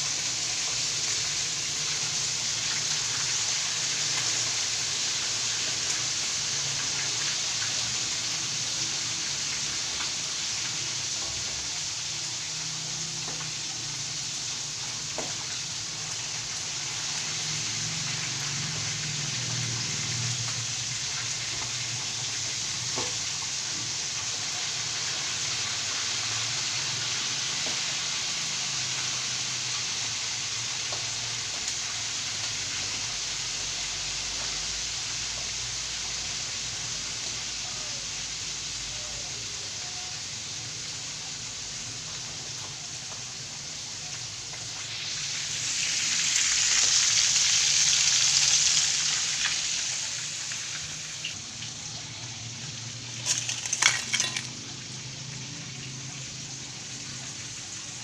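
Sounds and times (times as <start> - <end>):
chicken frying in hot oil: 0.0 - 58.0.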